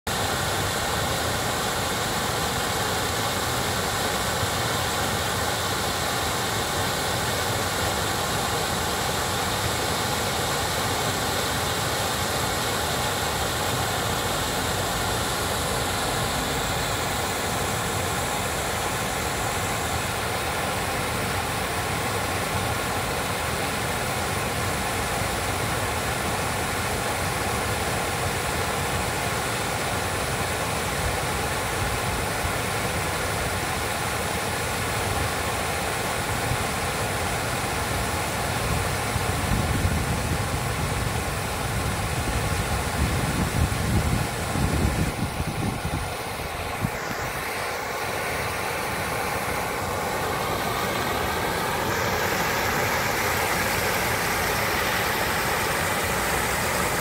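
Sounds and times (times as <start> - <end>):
water rushing over a weir: 0.1 - 57.0.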